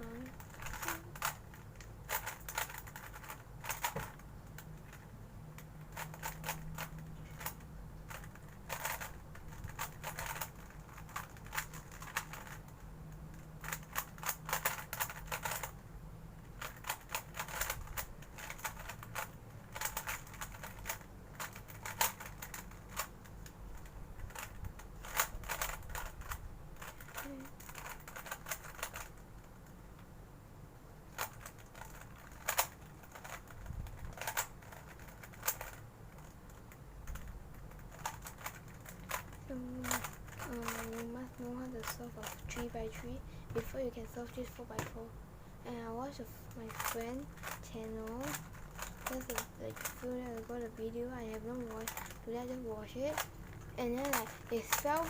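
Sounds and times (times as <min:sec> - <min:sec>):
rubik's cube clicking turns: 0:00.0 - 0:15.8, 0:16.4 - 0:29.2, 0:31.1 - 0:43.7, 0:46.5 - 0:55.0.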